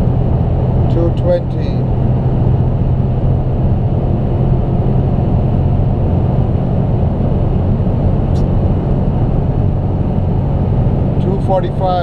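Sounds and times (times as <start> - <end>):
car engine droning at high speed: 0.0 - 12.0.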